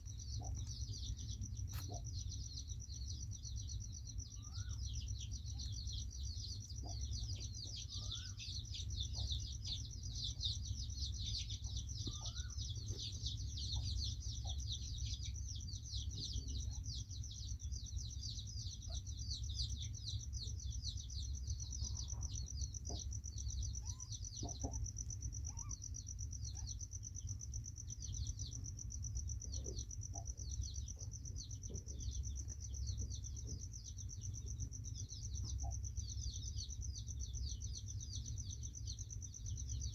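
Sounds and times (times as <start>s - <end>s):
low steady rumble: 0.0s - 39.9s
small birds chirping: 0.0s - 39.9s.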